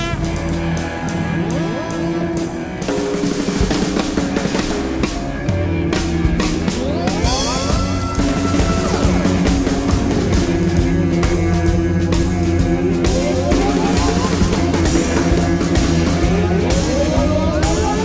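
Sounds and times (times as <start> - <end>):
saxophone: 0.0 - 3.7, 5.4 - 18.0
drum kit beating: 0.0 - 18.0
guitar: 0.0 - 18.0.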